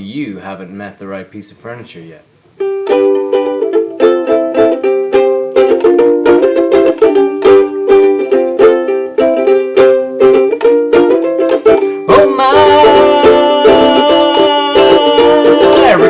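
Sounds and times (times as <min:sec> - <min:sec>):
strummed acoustic string chords: 0:02.6 - 0:16.0.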